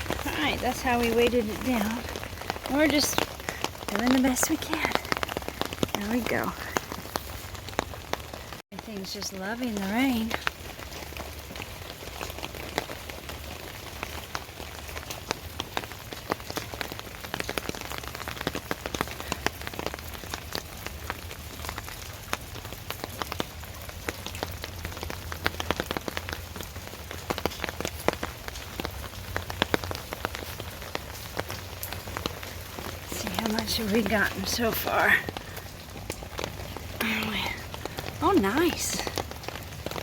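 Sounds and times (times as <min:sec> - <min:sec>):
raindrops tapping close by: 0:00.0 - 0:40.0
steady rain falling: 0:00.0 - 0:40.0.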